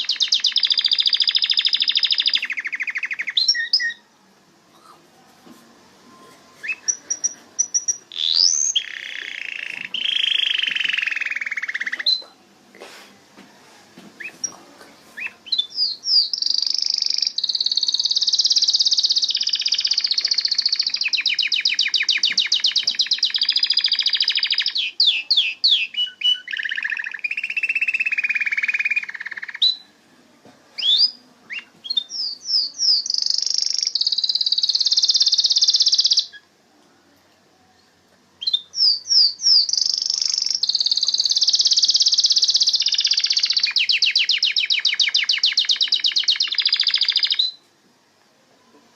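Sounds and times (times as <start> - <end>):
canary singing trills: 0.0 - 4.1, 6.0 - 12.4, 15.2 - 29.9, 30.8 - 36.5, 38.4 - 47.6.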